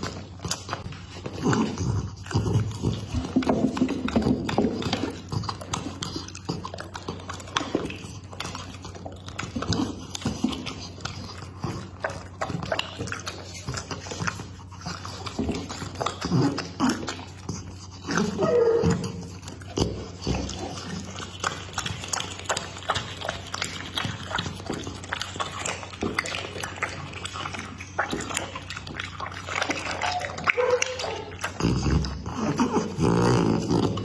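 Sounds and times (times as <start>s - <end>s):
dog chewing and crunching meat: 0.0s - 34.0s.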